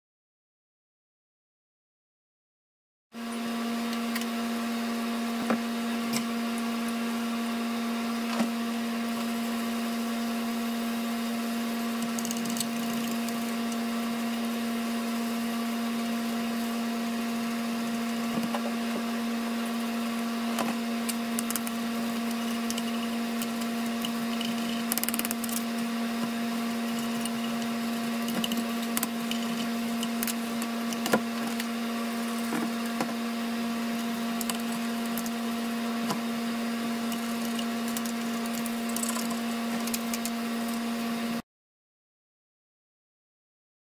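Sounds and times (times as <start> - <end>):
motor hum: 3.2 - 41.4.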